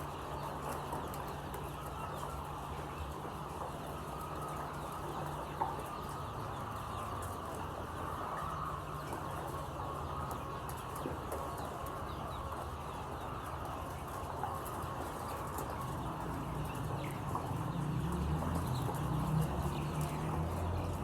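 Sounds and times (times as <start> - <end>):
chickens clucking and calling: 0.0 - 21.0.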